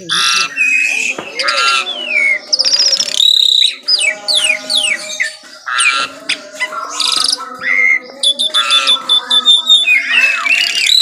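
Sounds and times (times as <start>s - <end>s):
songbird singing whistles and trills: 0.0s - 11.0s.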